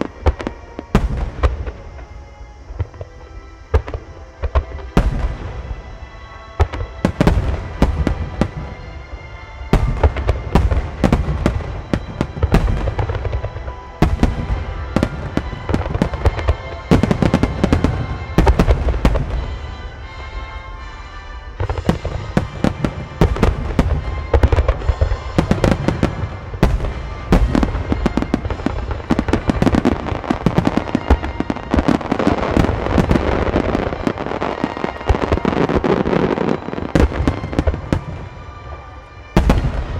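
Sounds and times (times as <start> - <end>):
crackling fireworks barrage: 0.0 - 39.9
fireworks bursting and launching: 0.0 - 39.9
music: 0.0 - 39.9.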